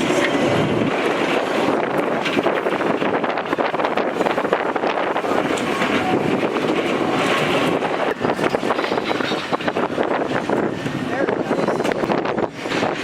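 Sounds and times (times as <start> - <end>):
trolley car rumbling and rattling: 0.0 - 13.0
wind buffeting microphone: 0.0 - 13.0.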